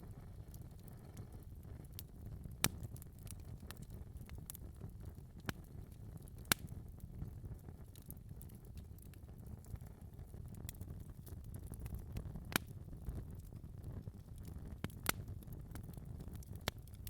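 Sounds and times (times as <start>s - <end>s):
wood fire crackling: 0.0s - 17.0s
sharp pops from fire: 1.8s - 9.7s, 10.6s - 17.0s.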